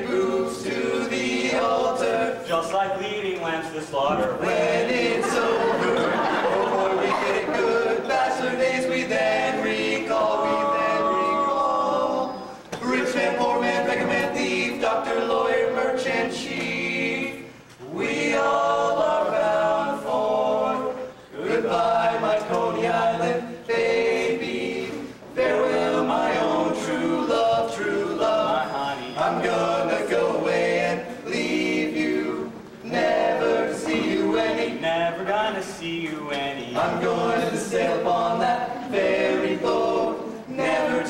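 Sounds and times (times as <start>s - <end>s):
male quartet singing a cappella: 0.0s - 2.8s, 3.9s - 41.0s.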